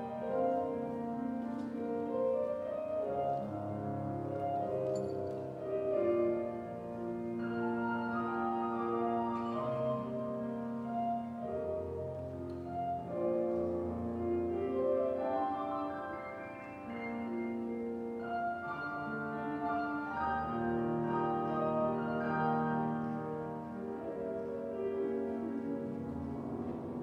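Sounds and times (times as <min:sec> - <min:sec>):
church organ playing chords: 0:00.0 - 0:27.0.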